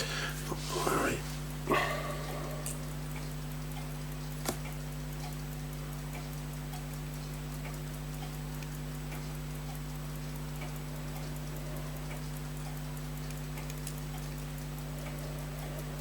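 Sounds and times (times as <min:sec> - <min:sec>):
electrical hum: 0:00.0 - 0:16.0
faint mechanical ticking: 0:00.0 - 0:16.0.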